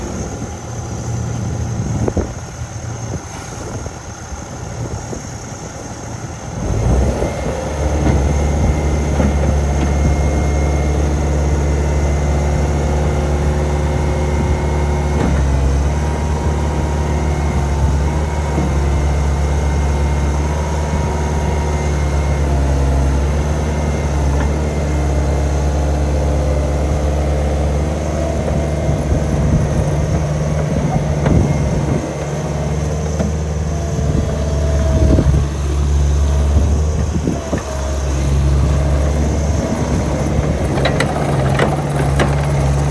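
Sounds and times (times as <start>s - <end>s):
diesel engine idling and revving: 0.0s - 42.9s.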